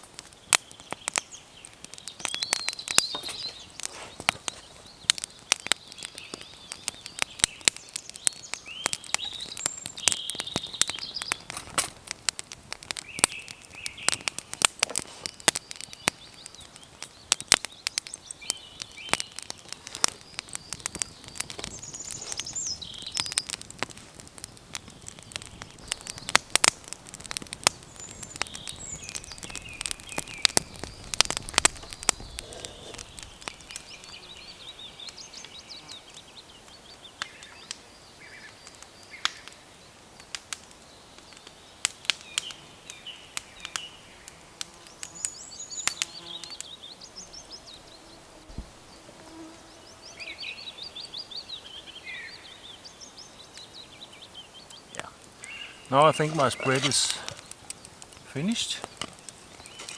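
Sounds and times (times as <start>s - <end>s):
small birds chirping: 0.0s - 59.9s
wood fire crackling and popping: 0.0s - 59.9s.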